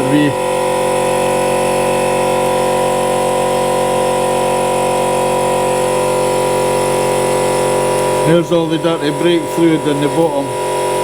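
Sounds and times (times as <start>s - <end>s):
motor-driven pump droning: 0.0s - 11.0s.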